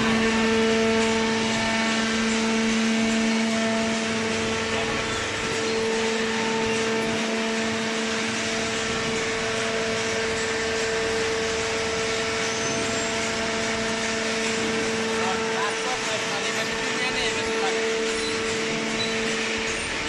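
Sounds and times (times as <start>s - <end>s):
hydraulic motor and pump drone: 0.0s - 20.0s.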